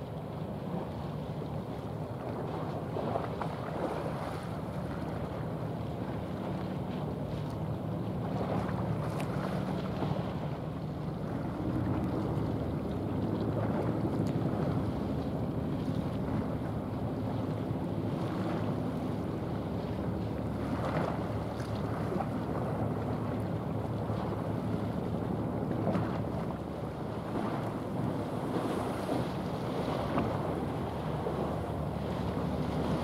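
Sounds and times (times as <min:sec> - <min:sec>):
ship engine drone: 0:00.0 - 0:33.0
water rushing at bow: 0:00.0 - 0:33.0.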